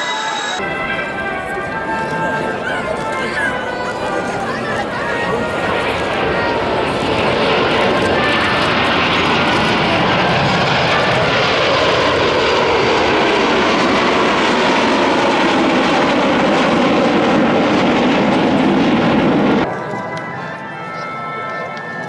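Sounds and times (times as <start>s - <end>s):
jet planes flying past: 0.0s - 22.0s.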